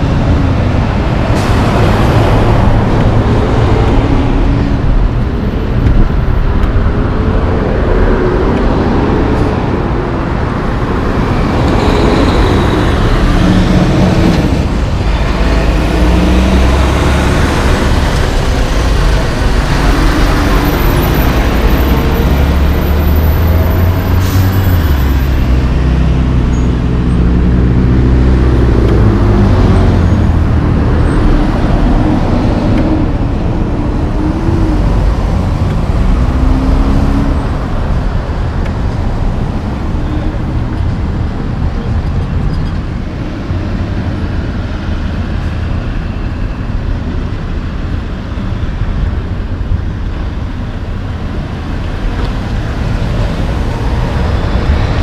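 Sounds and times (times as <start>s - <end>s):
passing cars: 0.0s - 55.0s.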